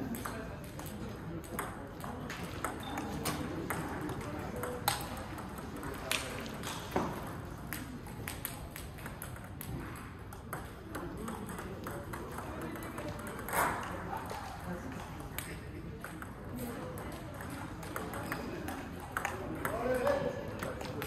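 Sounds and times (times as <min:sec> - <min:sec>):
table tennis ball clicking: 0:00.1 - 0:13.9, 0:17.0 - 0:20.0.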